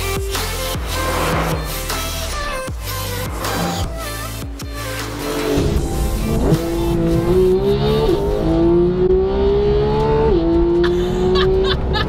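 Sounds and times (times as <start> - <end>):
car engine accelerating hard: 0.4 - 12.0.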